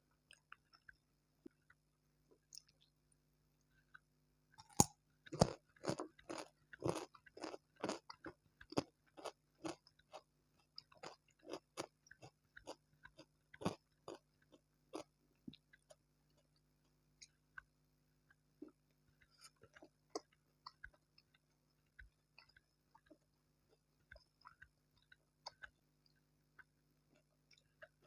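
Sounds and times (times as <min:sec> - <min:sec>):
chewing crunchy food: 0:00.1 - 0:28.0.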